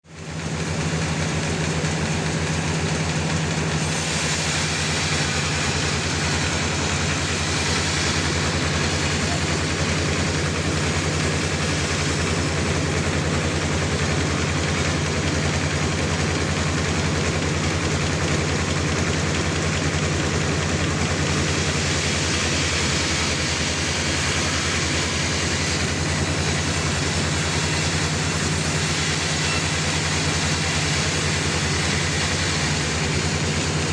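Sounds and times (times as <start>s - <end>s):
sawmill engine humming: 0.0s - 33.9s.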